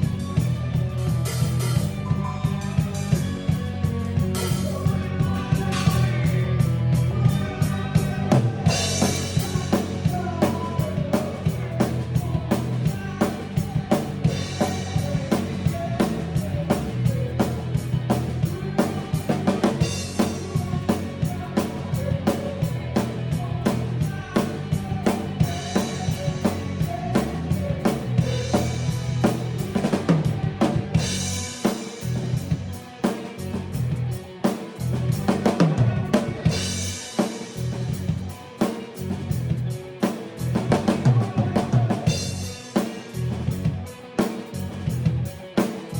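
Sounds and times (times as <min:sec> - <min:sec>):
band backing track: 0:00.0 - 0:45.9
drum kit rock groove: 0:00.0 - 0:45.9.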